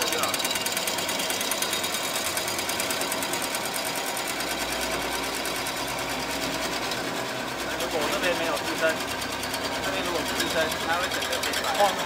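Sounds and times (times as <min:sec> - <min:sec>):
machine rattling fast: 0:00.0 - 0:12.0.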